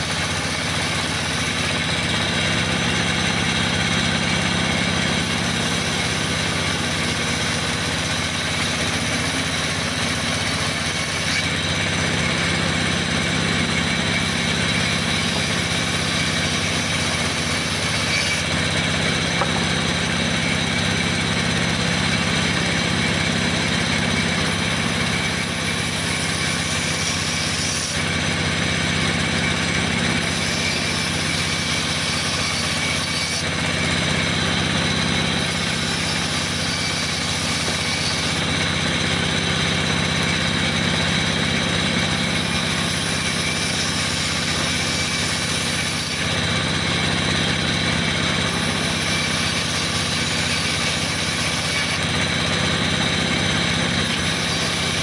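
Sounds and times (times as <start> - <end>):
band saw ripping wood: 0.0 - 40.1, 40.8 - 55.0.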